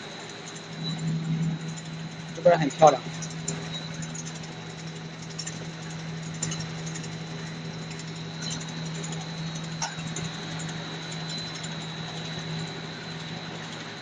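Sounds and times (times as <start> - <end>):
machinery humming: 0.0 - 14.0
thin high whine: 0.0 - 14.0.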